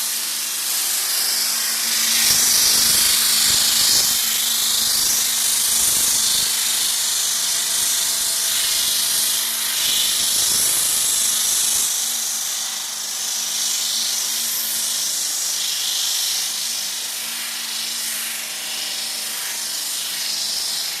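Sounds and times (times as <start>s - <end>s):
floor sanding machine hiss and hum: 0.0s - 21.0s.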